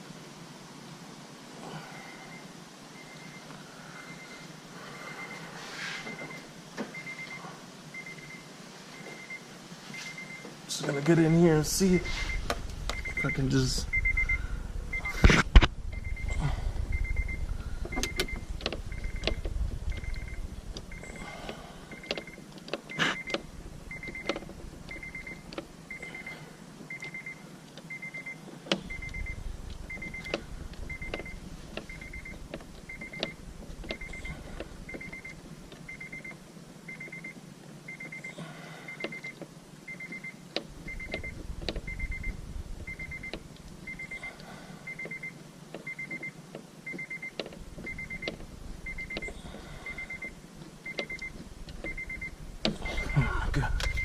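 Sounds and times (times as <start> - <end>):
car warning chime beeping: 6.1 - 54.0.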